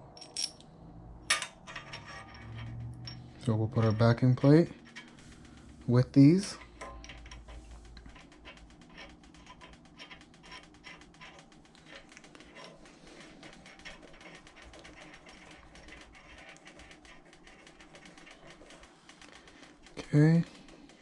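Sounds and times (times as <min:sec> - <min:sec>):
small metal parts clicking: 0:00.0 - 0:00.7, 0:01.3 - 0:21.0.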